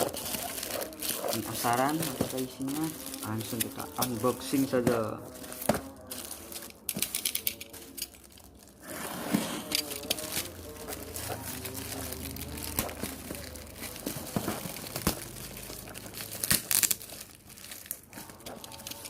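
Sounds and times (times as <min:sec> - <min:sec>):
parcel wrapping crinkling and tearing: 0:00.0 - 0:19.0.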